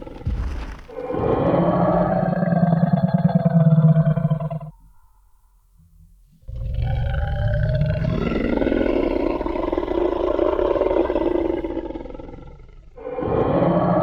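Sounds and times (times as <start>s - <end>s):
deep growling roar: 0.0s - 4.7s, 6.5s - 14.0s.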